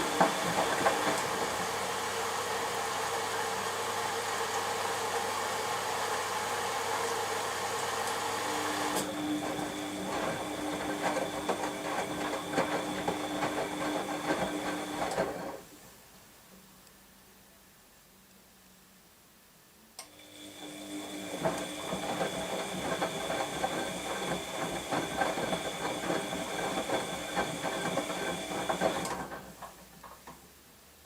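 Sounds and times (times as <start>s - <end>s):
washing machine motor hum: 0.0s - 15.7s, 20.1s - 29.8s.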